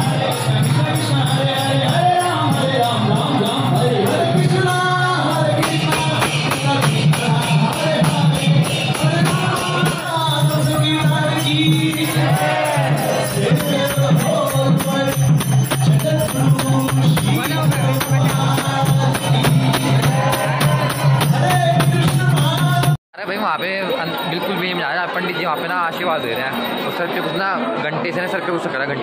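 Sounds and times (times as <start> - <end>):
jingling hand percussion: 0.0 - 27.6.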